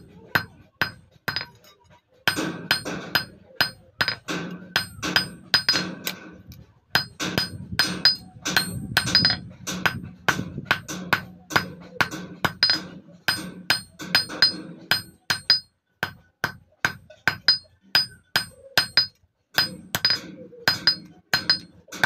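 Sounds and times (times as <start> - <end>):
hammer striking steel blade: 0.0 - 6.3, 7.0 - 22.0.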